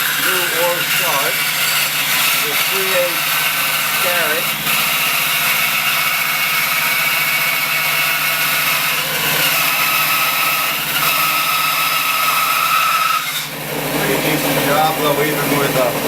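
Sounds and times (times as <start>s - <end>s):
band saw cutting wood: 0.0s - 16.0s.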